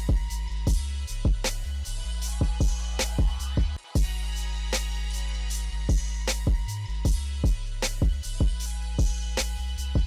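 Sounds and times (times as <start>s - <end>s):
hip hop beat: 0.0s - 10.0s.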